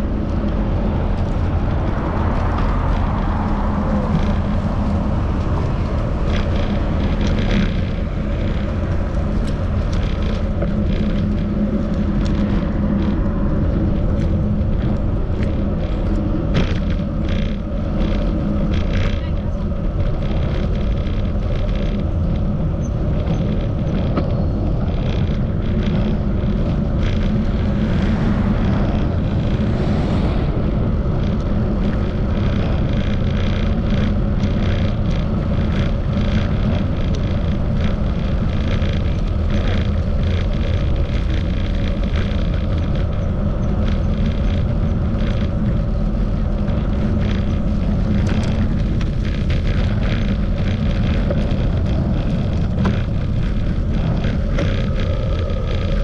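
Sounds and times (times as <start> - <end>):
tyre and road noise: 0.0 - 56.0
wind buffeting microphone: 0.0 - 56.0
small crackles: 0.1 - 30.2, 31.2 - 56.0.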